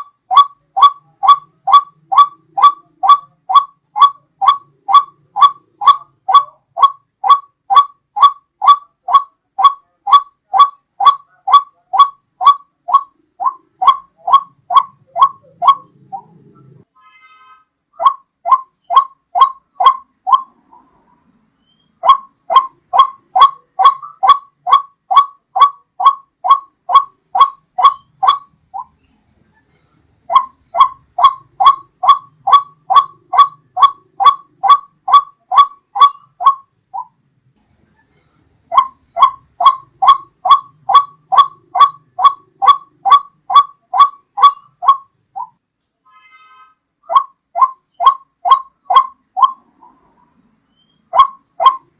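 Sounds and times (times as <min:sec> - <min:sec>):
waterhen calling: 0:00.0 - 0:16.8, 0:18.0 - 0:21.0, 0:21.6 - 0:29.0, 0:30.2 - 0:37.1, 0:38.7 - 0:45.6, 0:47.1 - 0:51.9.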